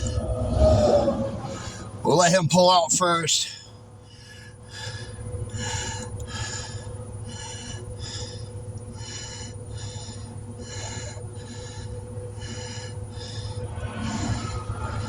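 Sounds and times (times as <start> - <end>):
low engine idle hum: 0.0 - 15.0.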